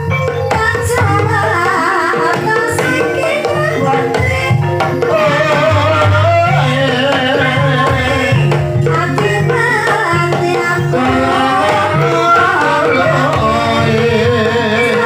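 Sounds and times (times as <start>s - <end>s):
gamelan music: 0.0s - 15.0s
hand drums: 0.0s - 15.0s
person singing: 0.0s - 15.0s.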